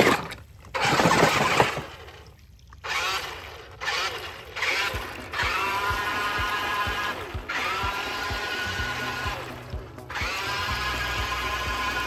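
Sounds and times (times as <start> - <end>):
rc truck splashing through water: 0.0 - 12.0.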